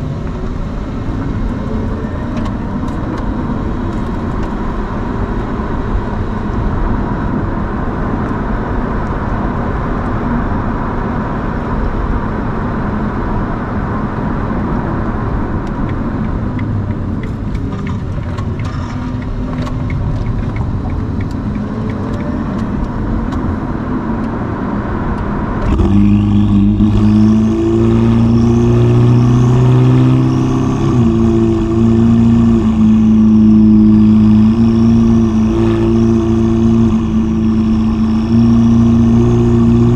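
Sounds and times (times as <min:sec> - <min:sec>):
car engine and exhaust: 0:00.0 - 0:39.9
road noise: 0:00.0 - 0:39.9.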